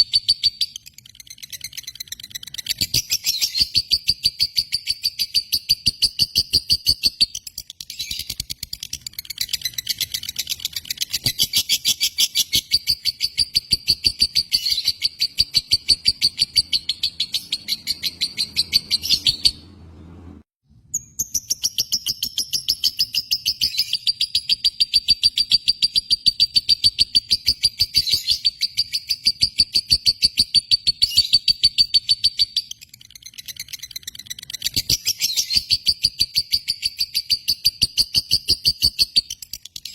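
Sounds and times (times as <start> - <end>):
lovebird chirping rapidly: 0.0 - 19.7, 20.9 - 39.9.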